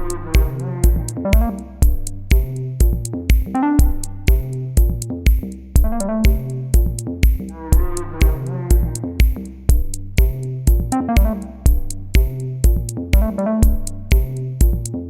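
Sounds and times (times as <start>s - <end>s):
synthesizer notes: 0.0s - 4.9s, 5.8s - 9.4s, 10.2s - 14.4s
drum-machine beat: 0.0s - 15.0s.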